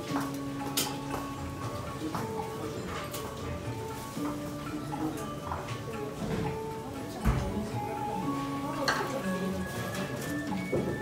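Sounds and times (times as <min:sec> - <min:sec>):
background music of held notes: 0:00.0 - 0:11.0.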